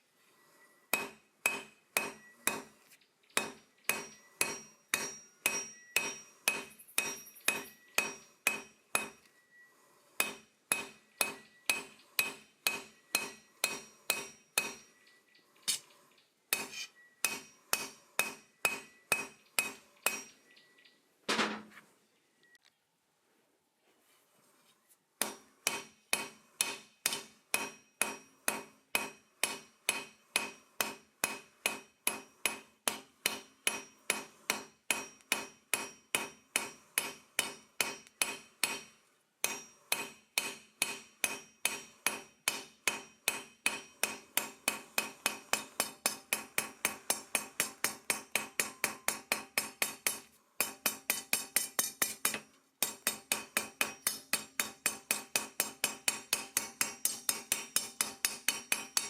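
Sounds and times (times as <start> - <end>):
hammer striking steel on anvil: 0.9 - 9.6, 10.2 - 15.9, 16.5 - 20.5, 25.2 - 59.0.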